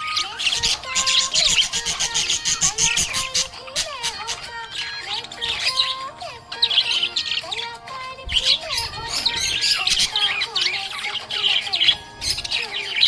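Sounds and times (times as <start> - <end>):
budgerigar chirping: 0.0 - 13.0.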